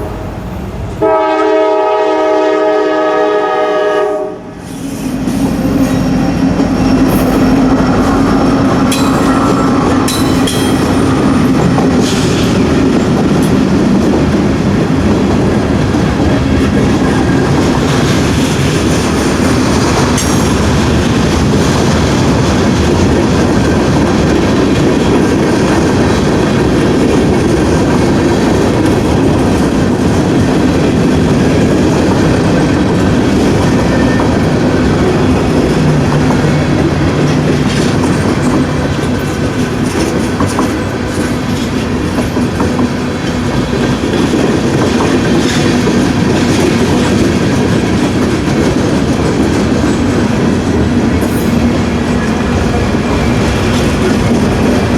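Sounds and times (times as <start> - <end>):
freight train rumble: 0.0 - 54.9
wheels clacking over rails: 5.2 - 54.9.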